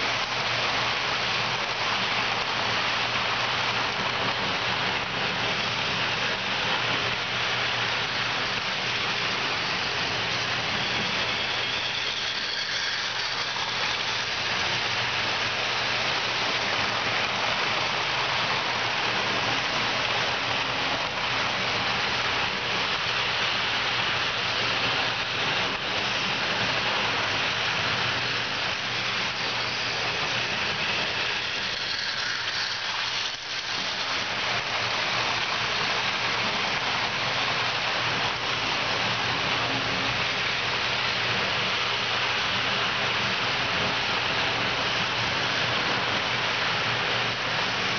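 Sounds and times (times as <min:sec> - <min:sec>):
model train wheels rolling on rails: 0:00.0 - 0:47.9.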